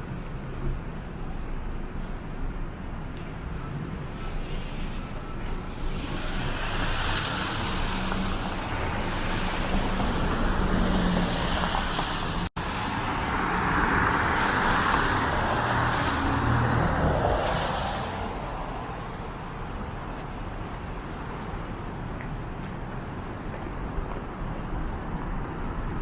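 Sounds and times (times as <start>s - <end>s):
cars passing with tyre hiss: 0.0s - 26.0s.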